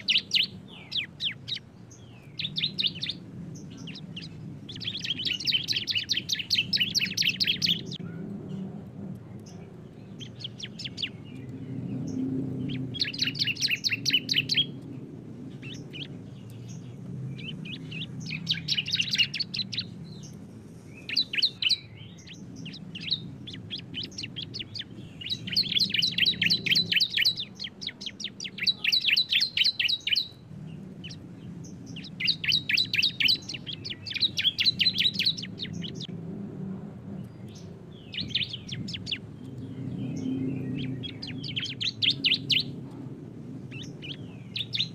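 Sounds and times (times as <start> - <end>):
bird rapid rattling song: 0.0 - 8.6, 9.4 - 36.1, 37.3 - 42.8, 43.6 - 44.9.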